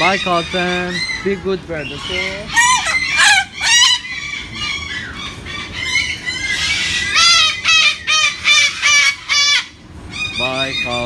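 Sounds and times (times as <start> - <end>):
cockatoo squawking: 0.0 - 11.0.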